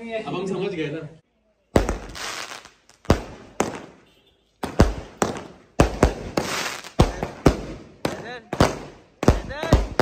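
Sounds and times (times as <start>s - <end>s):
fireworks bangs: 1.7s - 10.0s.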